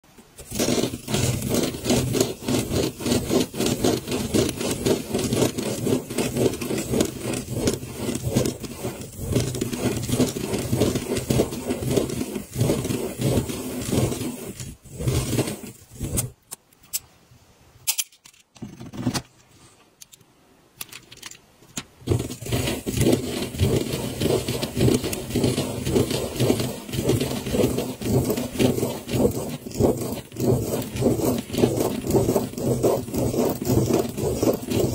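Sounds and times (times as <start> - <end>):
pen scratching on paper: 0.4 - 16.4, 22.1 - 34.9.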